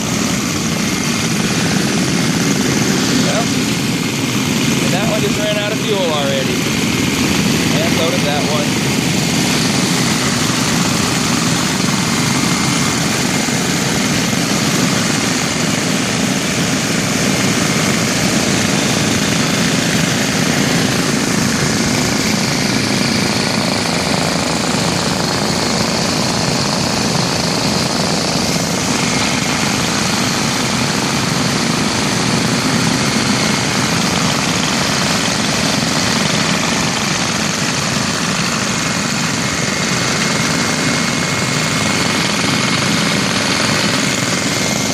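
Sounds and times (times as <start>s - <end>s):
small engines chattering: 0.0s - 44.9s.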